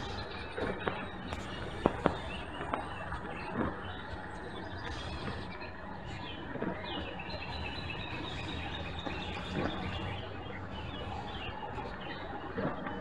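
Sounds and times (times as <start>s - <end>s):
small songbirds chirping: 0.0s - 12.5s.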